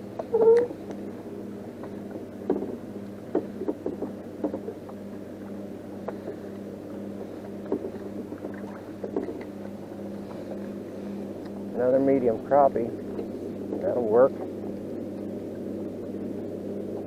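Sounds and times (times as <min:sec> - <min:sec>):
pulsing low hum: 0:00.0 - 0:17.0.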